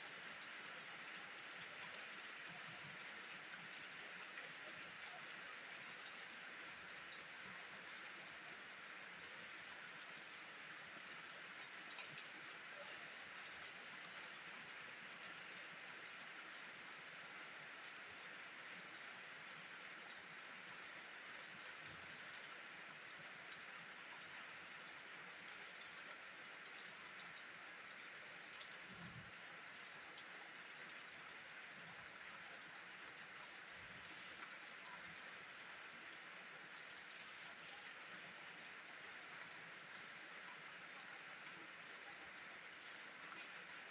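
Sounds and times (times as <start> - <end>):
faint rain falling: 0.0 - 43.9.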